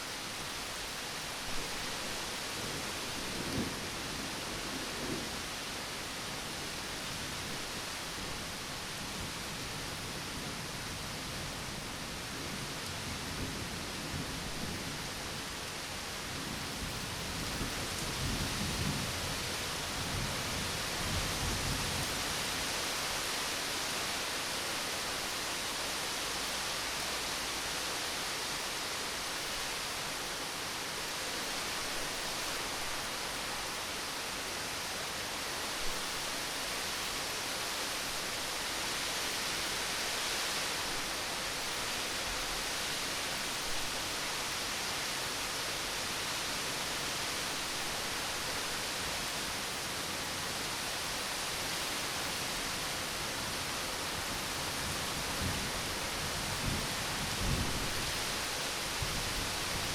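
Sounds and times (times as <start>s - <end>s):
rain hissing: 0.0s - 59.9s.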